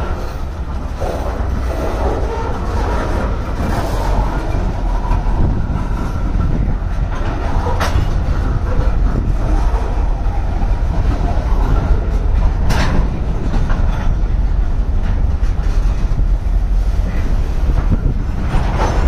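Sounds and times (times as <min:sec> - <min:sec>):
freight car clicks and clanks: 0:00.0 - 0:19.0
steel wheels rumbling on rail: 0:00.0 - 0:19.0.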